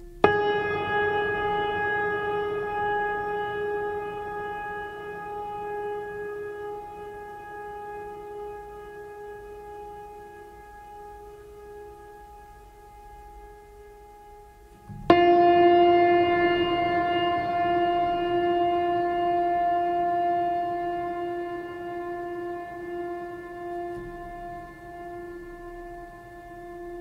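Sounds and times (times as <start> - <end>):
long held music note: 0.0 - 27.0.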